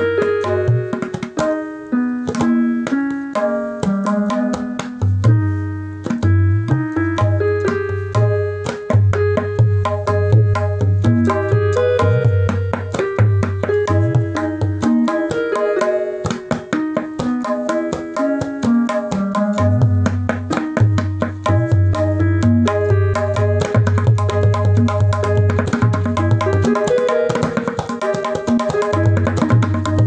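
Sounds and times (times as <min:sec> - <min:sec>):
melodic instrument: 0:00.0 - 0:30.0
tabla playing fast rhythm: 0:00.0 - 0:30.0.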